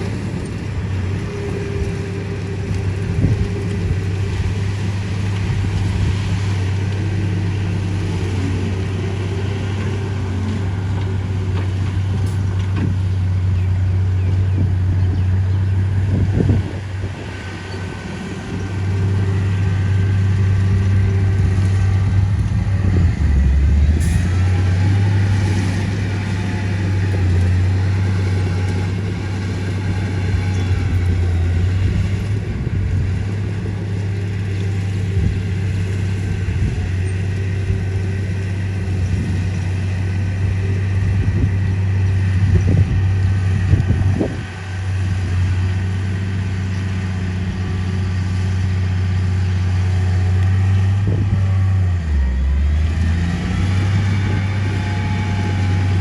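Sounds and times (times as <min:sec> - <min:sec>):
diesel engine of heavy machinery: 0:00.0 - 0:56.0.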